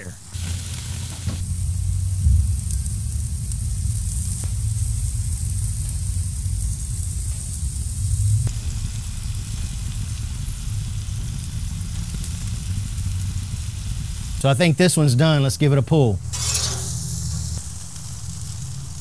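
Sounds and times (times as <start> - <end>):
steaks sizzling on grill: 0.0 - 19.0
low steady rumble: 0.1 - 19.0.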